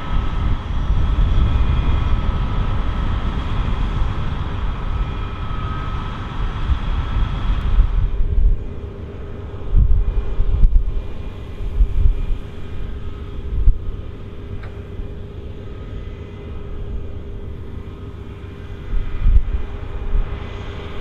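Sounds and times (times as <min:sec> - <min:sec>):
combine harvester running: 0:00.0 - 0:21.0
low rumble: 0:00.0 - 0:21.0.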